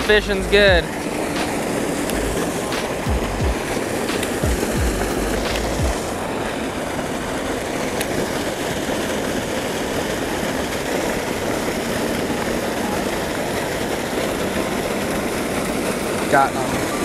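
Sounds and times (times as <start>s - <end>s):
water gushing from pipe: 0.0s - 17.0s.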